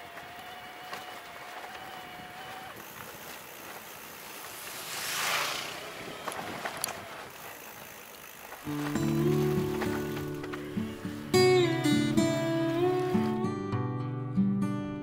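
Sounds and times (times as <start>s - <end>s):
vehicle passing on road: 0.0s - 13.4s.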